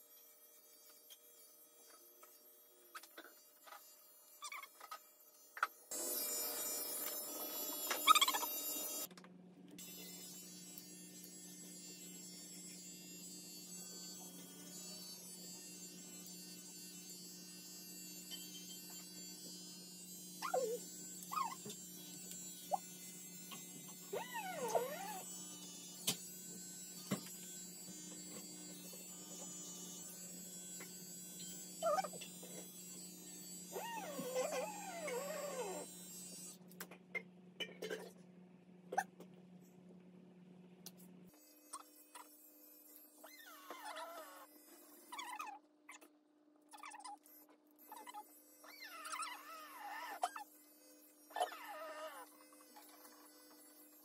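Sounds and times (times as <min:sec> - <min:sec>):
electric pet clipper humming: 0:00.0 - 0:09.2, 0:09.8 - 0:36.9, 0:40.9 - 0:46.1, 0:46.7 - 0:54.0.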